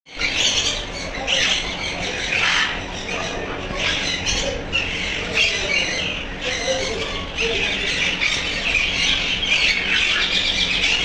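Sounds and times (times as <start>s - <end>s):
parrots screeching and squawking: 0.2s - 11.0s.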